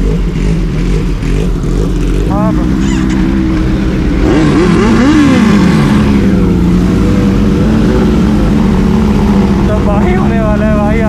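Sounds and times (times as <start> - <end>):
motorcycle engine revving: 0.0 - 11.0
motorcycle engines idling: 0.0 - 11.0.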